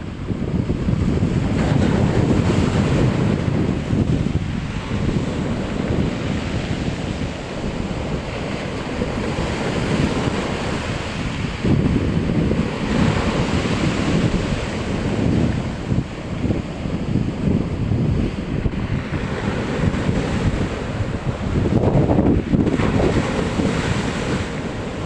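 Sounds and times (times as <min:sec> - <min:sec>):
wind buffeting microphone: 0:00.0 - 0:25.0
waves breaking: 0:00.2 - 0:25.0.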